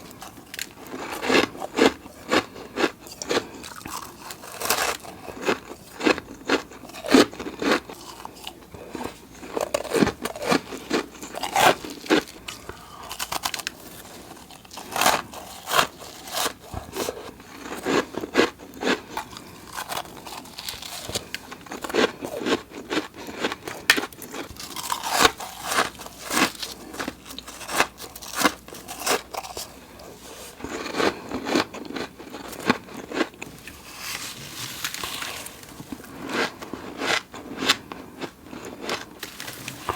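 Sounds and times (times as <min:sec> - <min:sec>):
crunchy frost chewing: 0:00.0 - 0:39.9.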